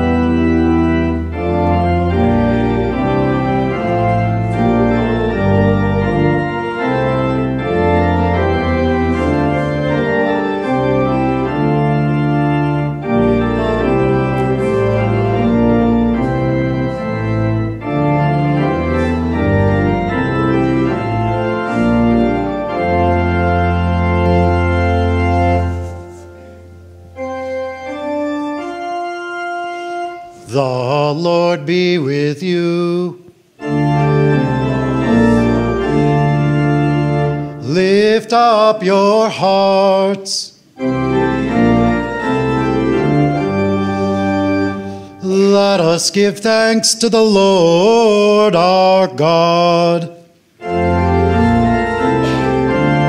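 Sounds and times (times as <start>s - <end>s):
church organ playing chords: 0.0s - 53.0s.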